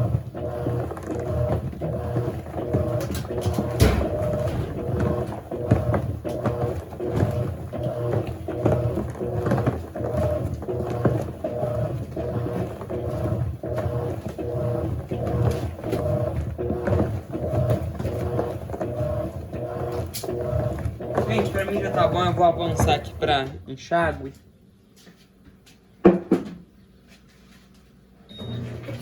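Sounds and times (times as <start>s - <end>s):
washing machine motor whining: 0.0s - 24.1s, 28.2s - 29.0s.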